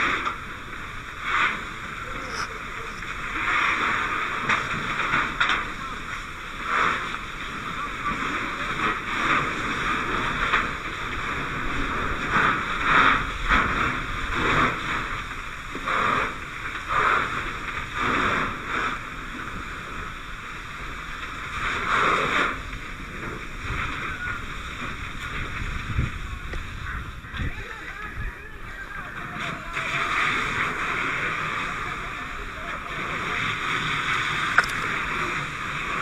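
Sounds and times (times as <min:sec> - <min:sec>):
fire hose spraying water: 0:00.0 - 0:36.0.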